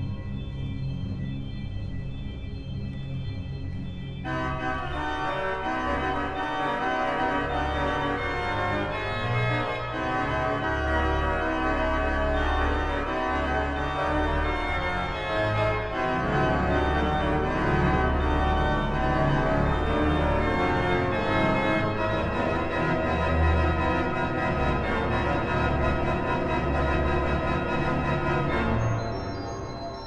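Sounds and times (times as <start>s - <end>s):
sustained organ chords: 0.0s - 30.0s.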